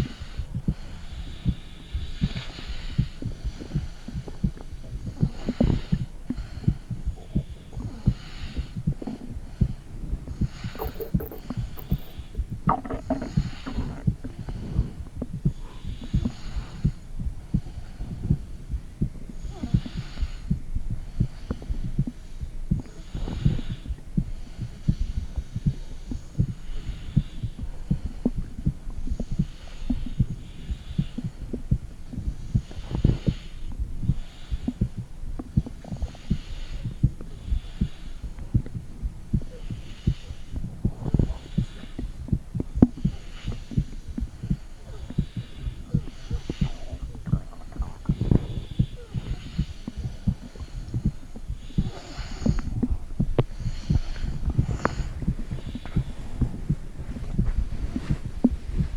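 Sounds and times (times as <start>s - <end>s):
heartbeat thuds: 0.0s - 58.9s.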